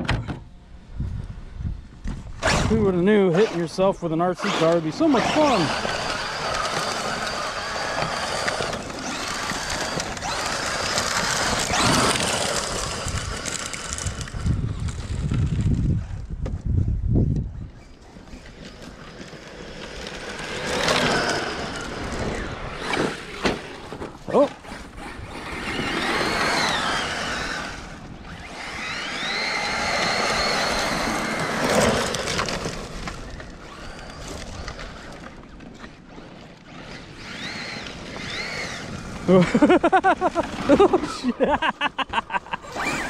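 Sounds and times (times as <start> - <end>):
electric motors whining: 1.7 - 16.3, 17.3 - 43.0.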